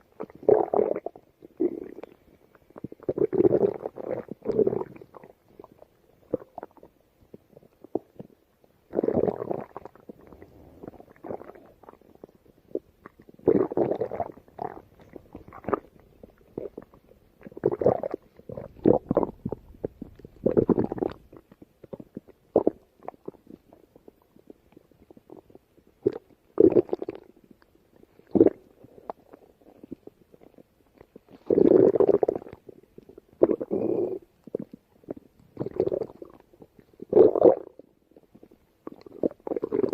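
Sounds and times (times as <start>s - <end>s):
stomach growling: 0.0s - 39.9s.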